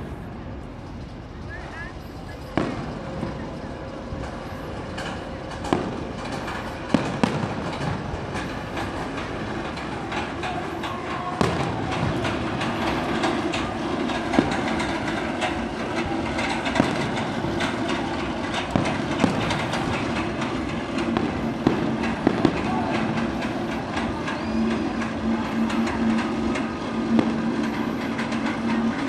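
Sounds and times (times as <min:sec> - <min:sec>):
roller coaster rumbling on track: 0:00.0 - 0:29.0
firework bangs: 0:02.5 - 0:03.4, 0:05.6 - 0:09.6, 0:10.2 - 0:28.7.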